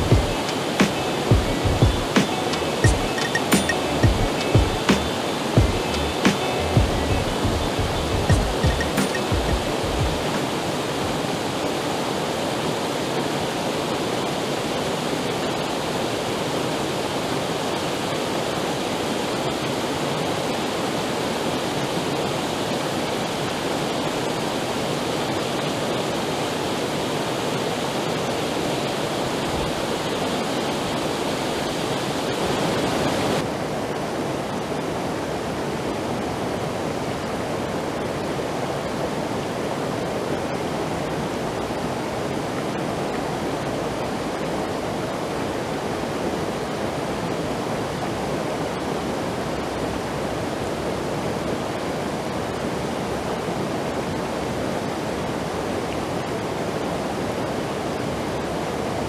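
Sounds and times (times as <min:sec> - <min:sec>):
waterfall rushing over boulders: 0:00.0 - 0:59.0.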